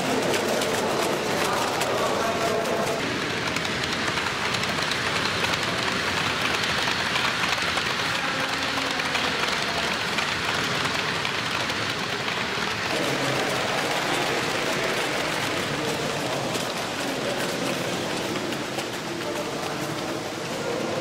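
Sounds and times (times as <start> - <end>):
model train wheels on rails: 0.0 - 21.0.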